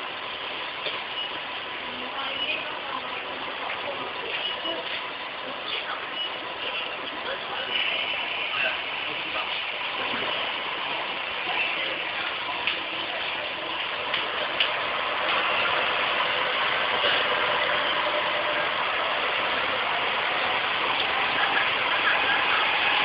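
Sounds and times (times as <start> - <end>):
diesel railcar engine idling: 0.0 - 23.0.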